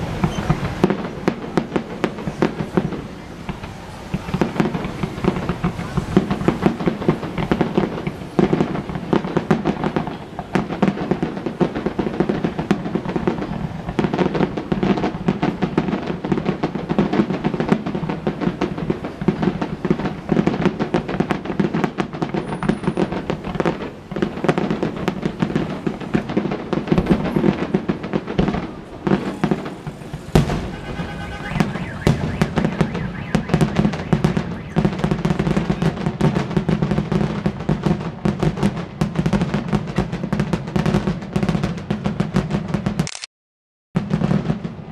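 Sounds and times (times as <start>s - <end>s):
fireworks bangs and crackling: 0.0s - 43.1s, 44.0s - 44.9s.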